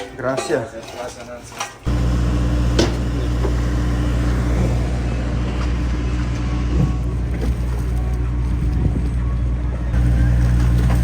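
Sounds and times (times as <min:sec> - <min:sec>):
boat engine running: 0:01.9 - 0:11.0.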